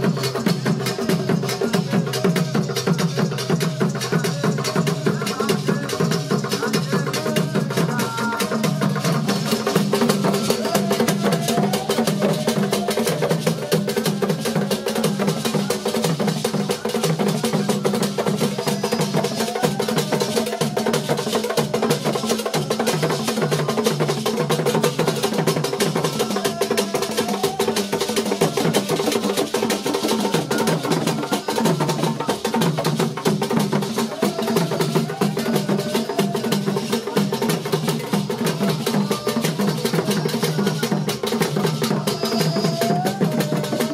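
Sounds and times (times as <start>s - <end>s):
drum and percussion music: 0.0s - 43.9s.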